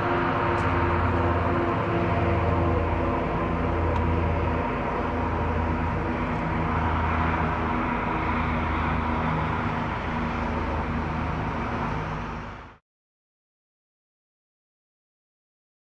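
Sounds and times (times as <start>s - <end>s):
airliner jet engines rumbling: 0.0s - 12.8s.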